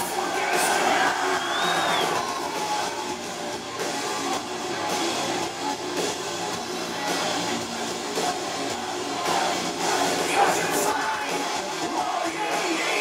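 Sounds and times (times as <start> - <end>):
live heavy metal band: 0.0 - 13.0.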